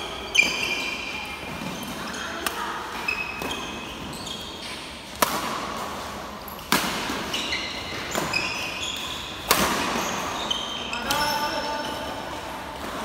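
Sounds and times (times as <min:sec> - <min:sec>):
sneaker squeaks on court floor: 0:00.0 - 0:05.6, 0:06.4 - 0:12.3
racket hitting shuttlecock: 0:00.3 - 0:11.3.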